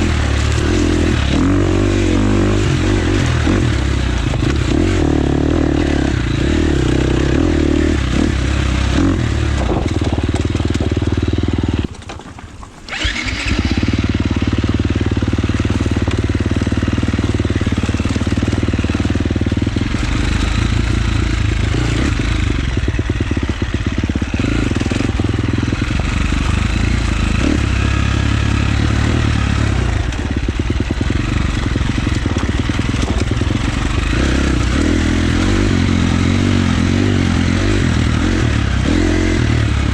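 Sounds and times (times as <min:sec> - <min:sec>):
dirt bike engine running hard: 0:00.0 - 0:39.9.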